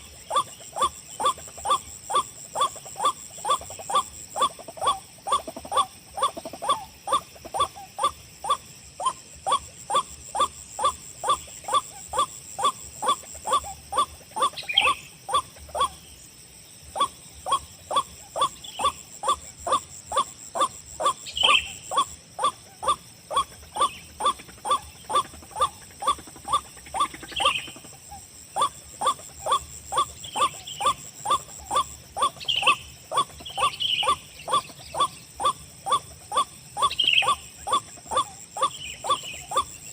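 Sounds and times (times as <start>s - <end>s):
higher faint bird calls: 0.0s - 16.3s, 16.9s - 39.9s.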